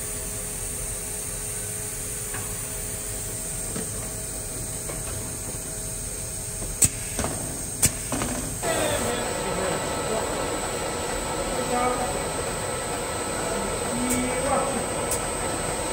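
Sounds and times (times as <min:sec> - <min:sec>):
machinery humming: 0:00.0 - 0:15.9.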